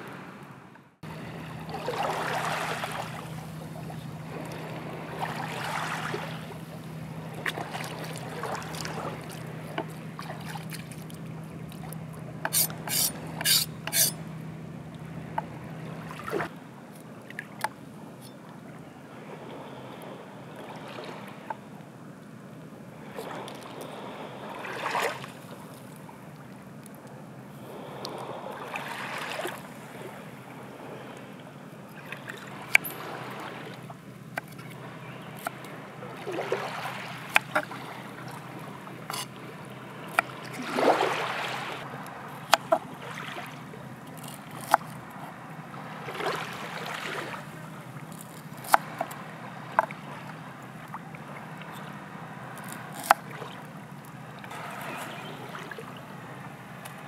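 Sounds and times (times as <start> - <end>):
water washing at shore: 1.0 - 17.9, 19.0 - 21.8, 22.9 - 57.0.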